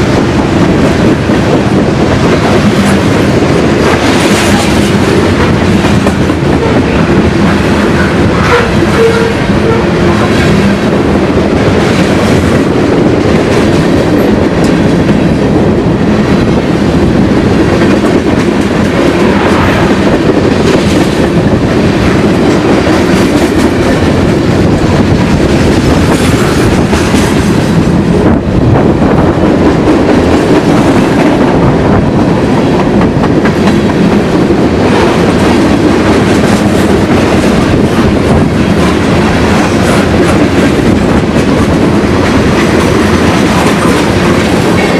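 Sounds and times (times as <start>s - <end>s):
train wheels clattering on rails: 0.0s - 44.9s.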